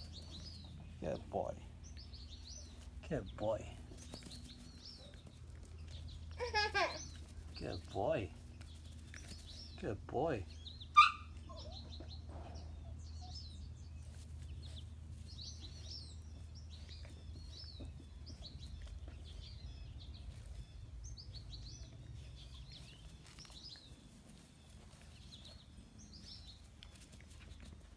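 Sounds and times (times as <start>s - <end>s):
birds chirping and singing: 0.0s - 27.9s.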